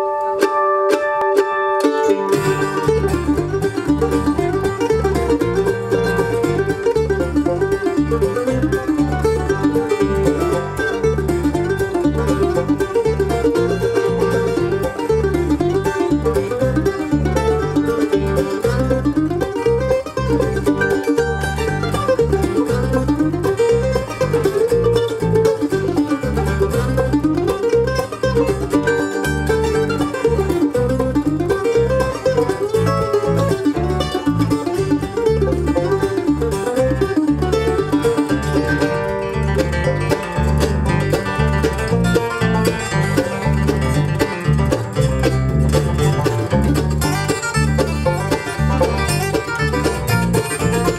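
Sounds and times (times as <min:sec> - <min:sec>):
acoustic guitar strumming: 0:00.0 - 0:50.9
banjo picking: 0:00.0 - 0:50.9
mandolin picking: 0:00.0 - 0:50.9
bass line: 0:01.8 - 0:50.9.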